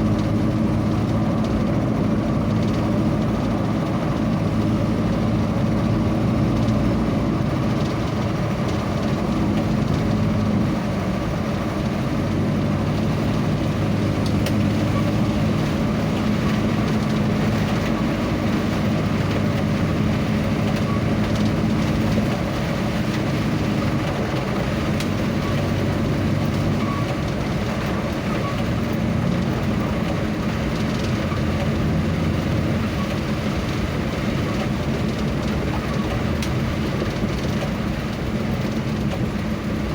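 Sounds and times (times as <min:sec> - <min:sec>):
road and wind noise: 0:00.0 - 0:39.9
vehicle engine hum: 0:00.0 - 0:39.9.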